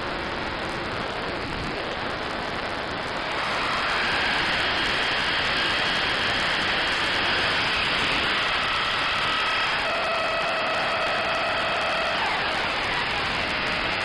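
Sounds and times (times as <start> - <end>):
faint high whining tones: 0.0 - 14.0
synthesized jet hiss: 0.0 - 14.0.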